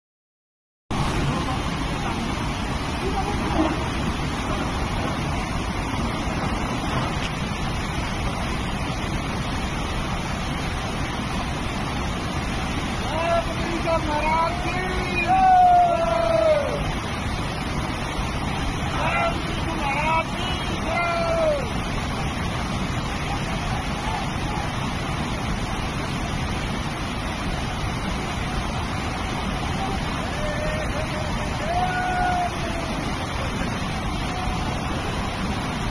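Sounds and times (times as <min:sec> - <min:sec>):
floodwater rushing over boulders: 0:00.9 - 0:35.9.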